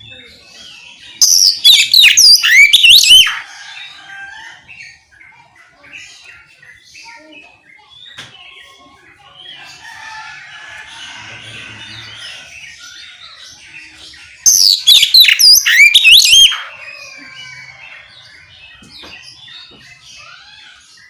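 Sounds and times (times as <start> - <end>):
bird chirping and warbling: 0.0 - 21.0.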